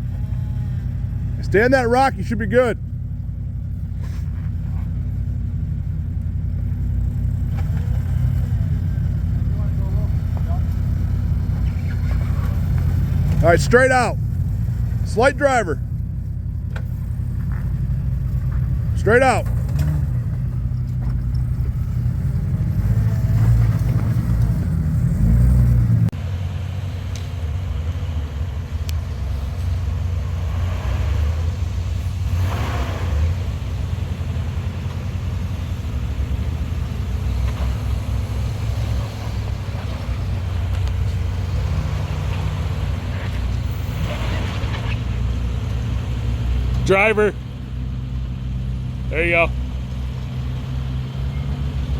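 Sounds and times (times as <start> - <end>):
off-road engine running low: 0.0 - 51.9.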